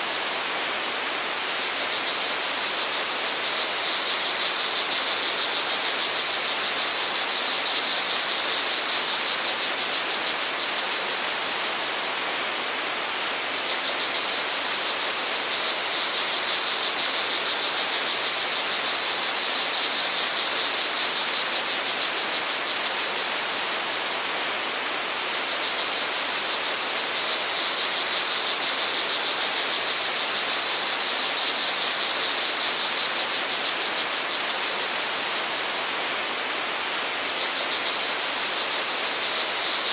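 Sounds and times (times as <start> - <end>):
crickets trilling: 0.1 - 12.0, 13.5 - 24.4, 25.1 - 39.9.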